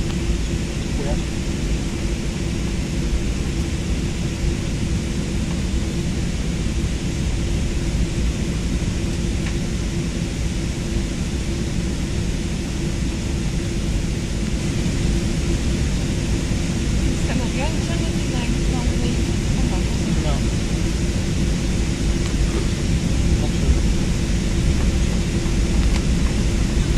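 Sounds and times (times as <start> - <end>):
airliner cabin rumble: 0.0 - 26.9.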